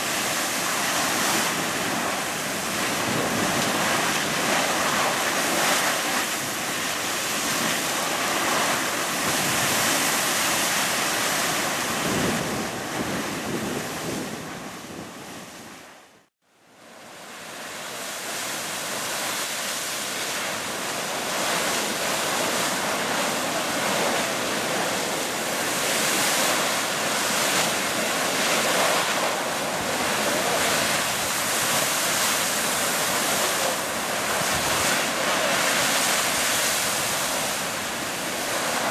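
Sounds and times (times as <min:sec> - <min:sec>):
geyser water splashing and steam: 0:00.0 - 0:15.9, 0:16.8 - 0:38.9
wind buffeting microphone: 0:00.0 - 0:15.9, 0:20.8 - 0:38.9.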